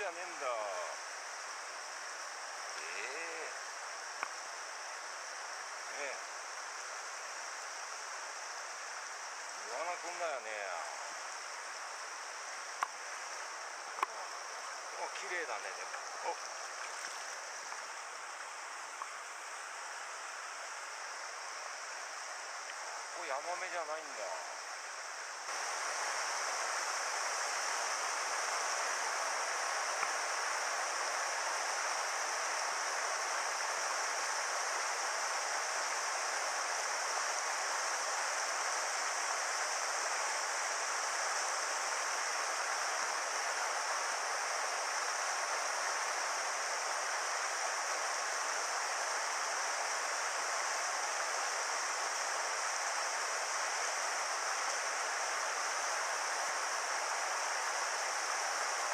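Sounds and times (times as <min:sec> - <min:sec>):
river water rushing over rocks: 0:00.6 - 0:58.9.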